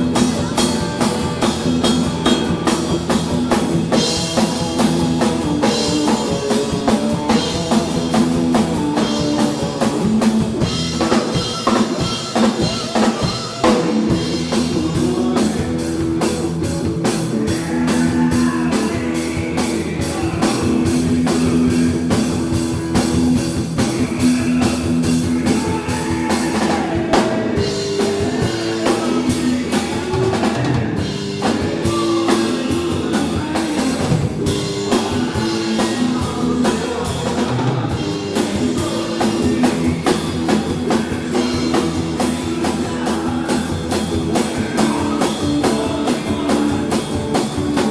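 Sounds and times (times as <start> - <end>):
drum kit steady beat: 0.0 - 47.9.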